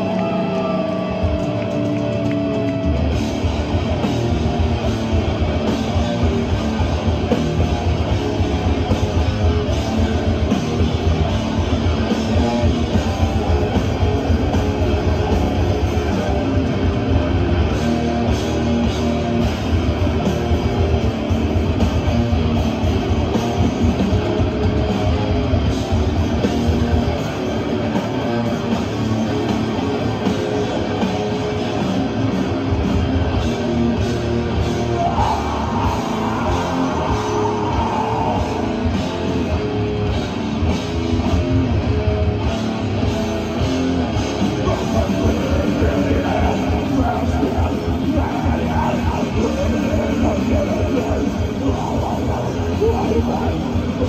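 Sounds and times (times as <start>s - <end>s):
bass guitar: 0.0s - 54.0s
distorted electric guitars: 0.0s - 54.0s
drums: 0.0s - 54.0s.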